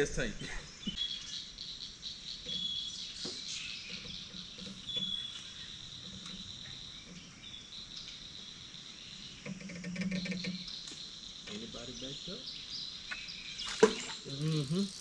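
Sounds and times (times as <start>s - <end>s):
insect chorus buzzing: 0.9s - 15.0s.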